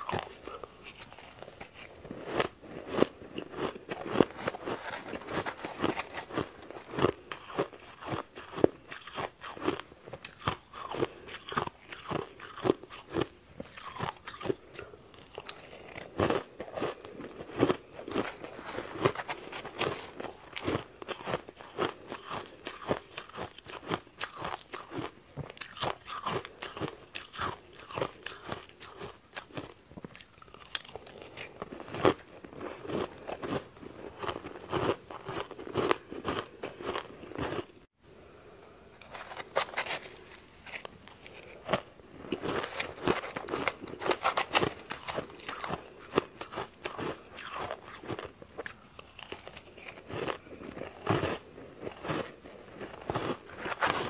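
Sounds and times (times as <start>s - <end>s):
person crunching ice: 0.0s - 37.7s, 39.0s - 54.0s.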